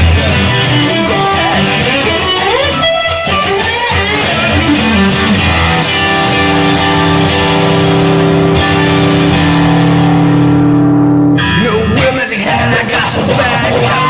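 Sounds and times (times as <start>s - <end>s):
gliding guitar line: 0.0s - 14.0s
held guitar chords: 0.0s - 14.0s.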